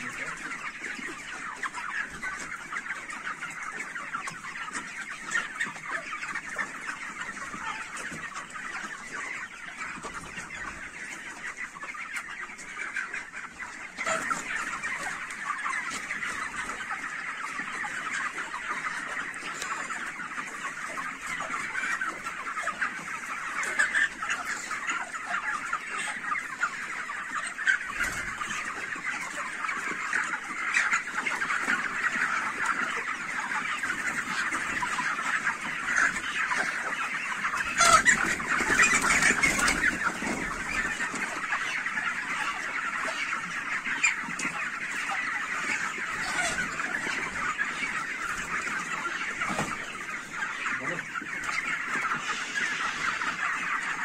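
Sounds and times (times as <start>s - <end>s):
chickens chirping: 0.0s - 54.0s.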